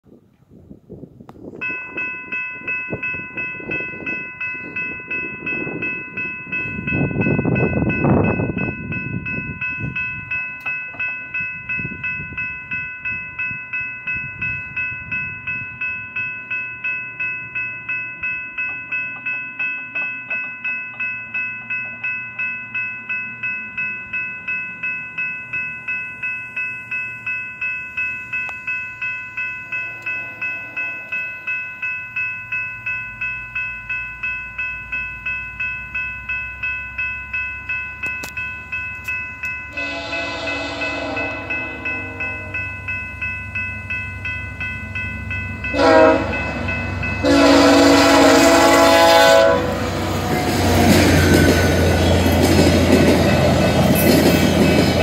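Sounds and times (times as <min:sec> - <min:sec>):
railroad crossing bell ringing: 0:01.4 - 0:55.0.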